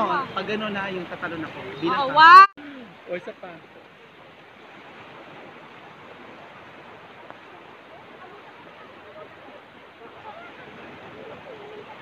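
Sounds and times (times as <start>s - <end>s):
waves washing onto beach: 0.0s - 12.0s.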